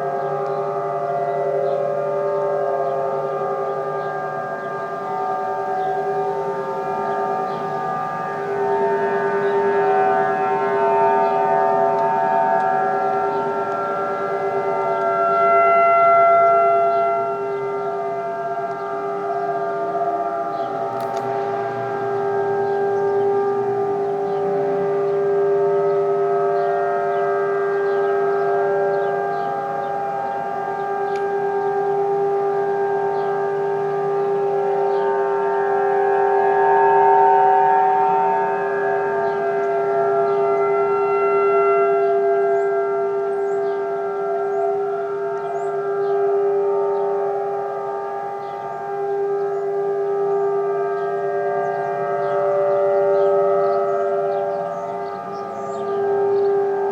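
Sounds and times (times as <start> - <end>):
distant warning sirens: 0.0 - 56.9.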